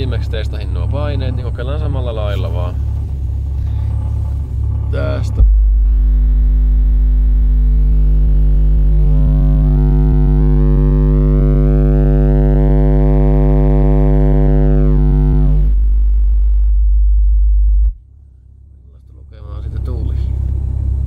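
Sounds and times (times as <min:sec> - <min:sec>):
subwoofer deep test tone hum: 0:00.0 - 0:21.0.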